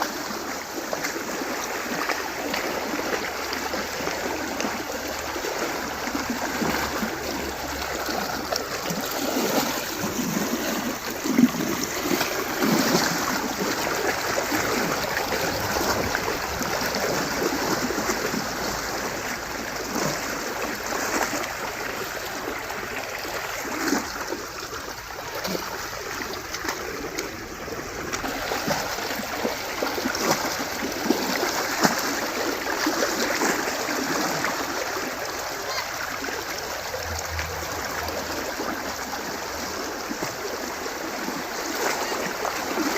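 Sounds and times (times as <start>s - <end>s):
hooves splashing in water: 0.0s - 42.9s
stream rushing: 0.0s - 42.9s.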